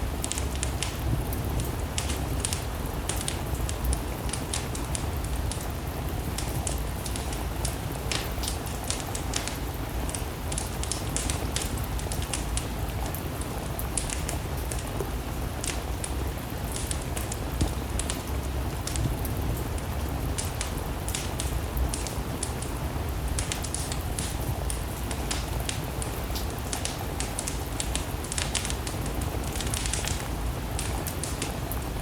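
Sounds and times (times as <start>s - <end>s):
steady rain: 0.0s - 32.0s
wood fire crackling: 0.0s - 32.0s.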